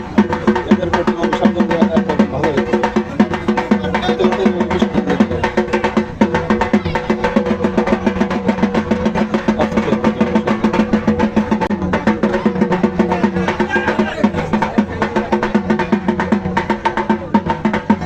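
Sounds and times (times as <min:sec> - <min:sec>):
drums beaten in rolling rhythm: 0:00.0 - 0:18.0.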